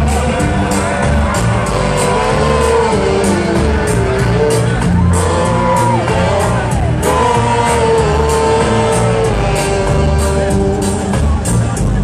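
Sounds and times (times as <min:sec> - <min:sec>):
bending held melody notes: 0:00.0 - 0:12.0
deep rhythmic bass: 0:00.0 - 0:12.0
live band music: 0:00.0 - 0:12.0.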